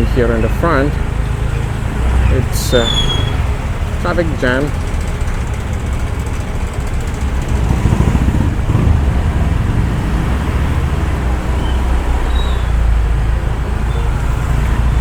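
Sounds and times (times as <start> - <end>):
car engine and road noise: 0.0 - 15.0
traffic rumble: 0.0 - 15.0.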